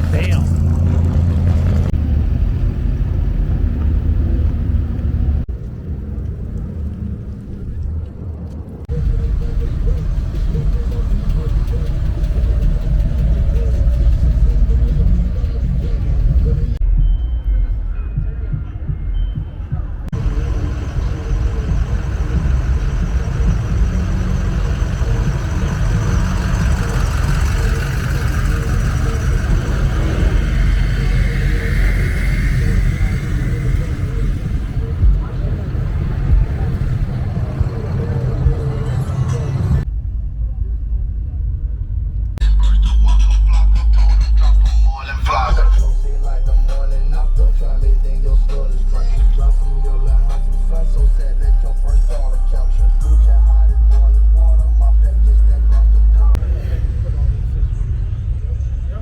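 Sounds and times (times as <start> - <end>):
vehicle engines running: 0.0 - 16.8, 18.8 - 40.0, 42.4 - 59.0.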